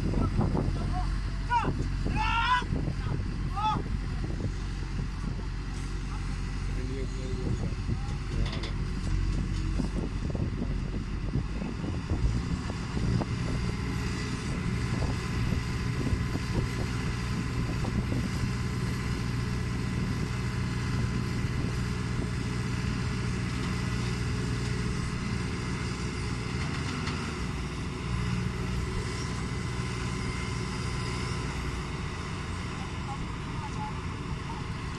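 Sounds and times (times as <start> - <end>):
backhoe diesel engine running: 0.0 - 34.9.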